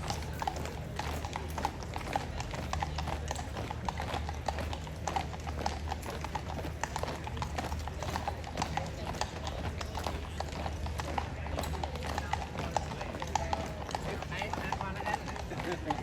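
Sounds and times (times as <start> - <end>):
hooves clip-clopping on pavement: 0.0 - 16.0.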